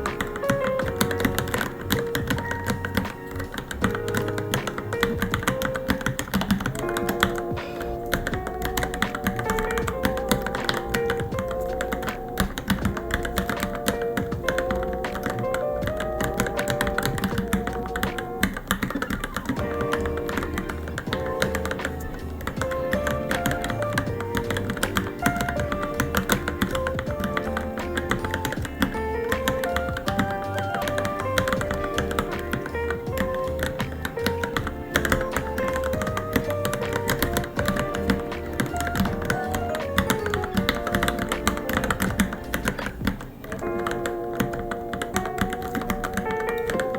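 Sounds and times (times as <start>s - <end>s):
background music: 0.0s - 46.9s
mechanical keyboard typing: 0.0s - 46.9s.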